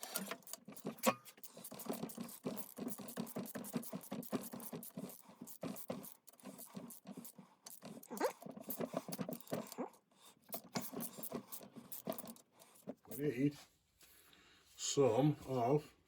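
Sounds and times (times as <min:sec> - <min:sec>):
metallic clicking and scraping: 0:00.0 - 0:13.3.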